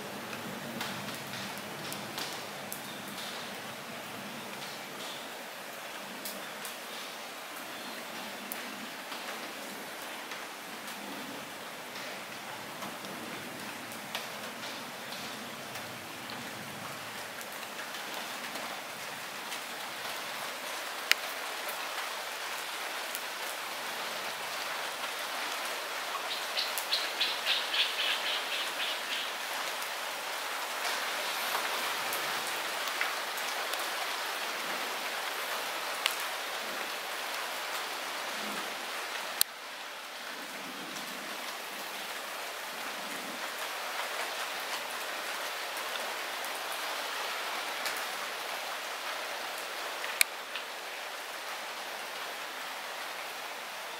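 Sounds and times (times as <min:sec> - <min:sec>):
light rain hissing: 0:00.0 - 0:53.9.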